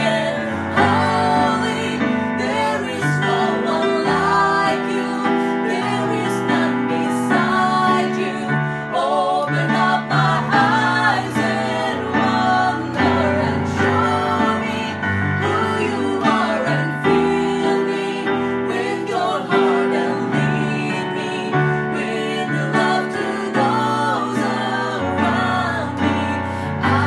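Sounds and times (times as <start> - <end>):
digital piano: 0.0 - 27.0
people singing a worship song: 0.0 - 27.0.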